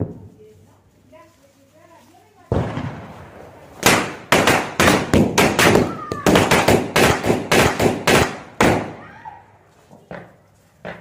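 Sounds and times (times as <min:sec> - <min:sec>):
firecrackers exploding: 0:00.0 - 0:00.4, 0:02.5 - 0:11.0.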